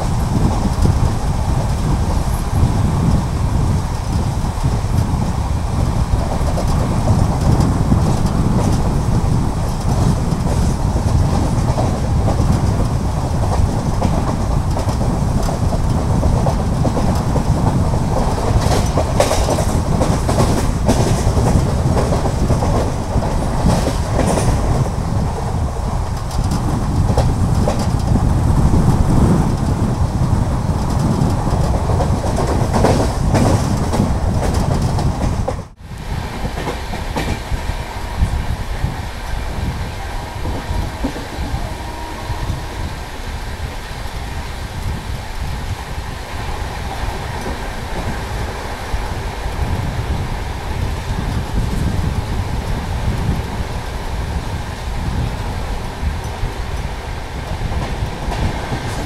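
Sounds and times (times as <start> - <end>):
train rumbling on rails: 0.0 - 59.0
wheels clacking over rail joints: 0.0 - 59.0.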